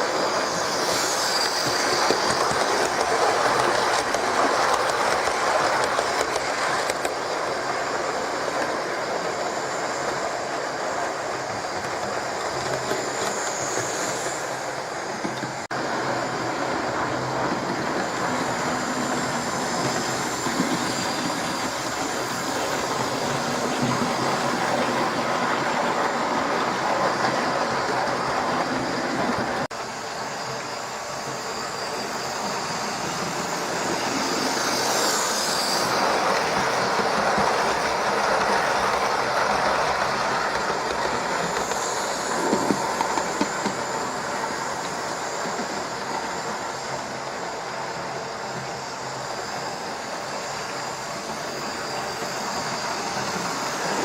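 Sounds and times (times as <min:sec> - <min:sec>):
model train motor whirring: 0:00.0 - 0:54.0.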